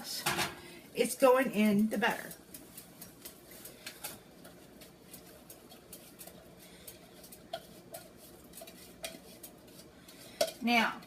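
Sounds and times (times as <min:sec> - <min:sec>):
peppers crackling in butter: 0:01.1 - 0:11.0.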